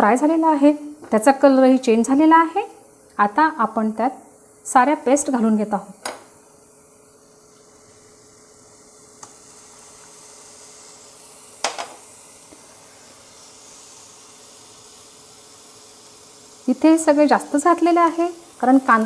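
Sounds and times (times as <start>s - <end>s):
onion paste sizzling in oil: 0.0s - 19.0s.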